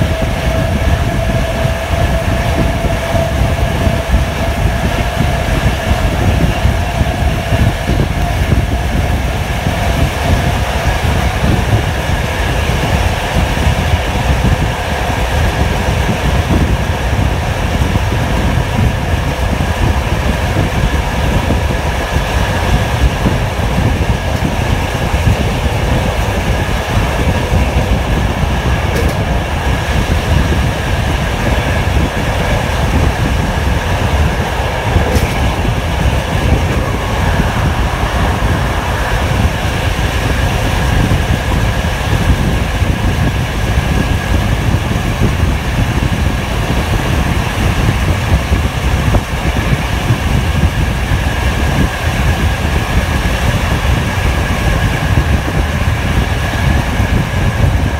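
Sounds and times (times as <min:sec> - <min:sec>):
faint steady whine: 0:00.0 - 0:57.9
train wheels rumbling on rails: 0:00.0 - 0:57.9.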